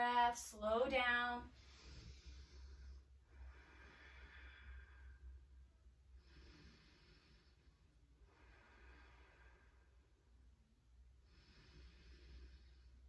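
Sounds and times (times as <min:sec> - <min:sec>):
low steady hum: 0:00.0 - 0:13.0
woman breathing slowly: 0:01.5 - 0:13.0.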